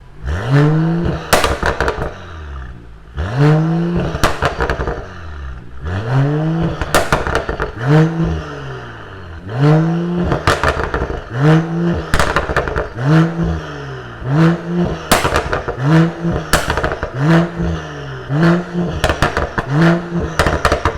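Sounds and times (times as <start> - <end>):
car engine revving: 0.0 - 20.9
exhaust crackles and pops: 0.6 - 20.9.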